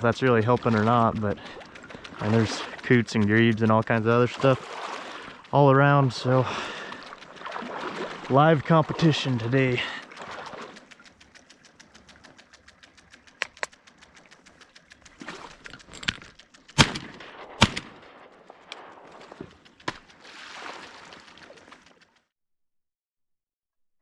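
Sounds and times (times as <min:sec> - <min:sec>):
faint quick ticking: 0:00.0 - 0:22.3.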